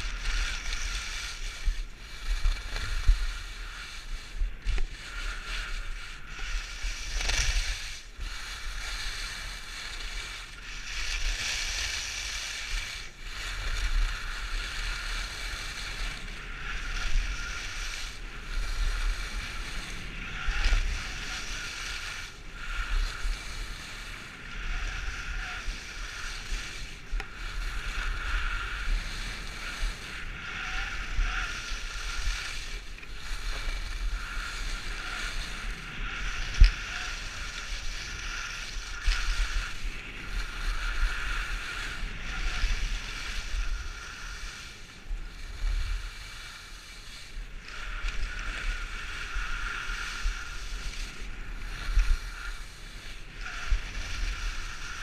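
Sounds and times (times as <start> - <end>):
skis scraping on snow: 0.0 - 55.0
wind rumble on microphone: 0.0 - 55.0.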